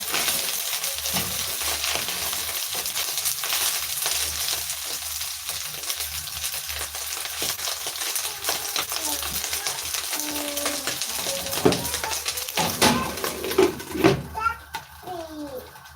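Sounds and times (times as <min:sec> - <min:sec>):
small fish frying in oil: 0:00.0 - 0:15.9.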